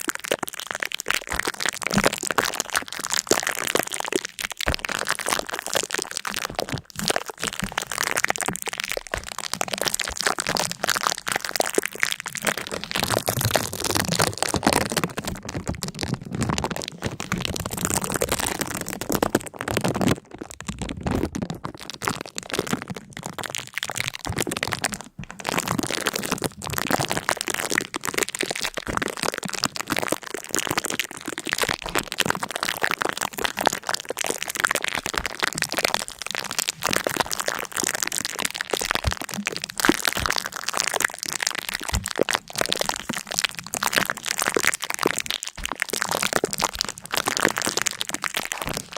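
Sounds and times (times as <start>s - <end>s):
dense crackling and crunching: 0.0s - 48.9s.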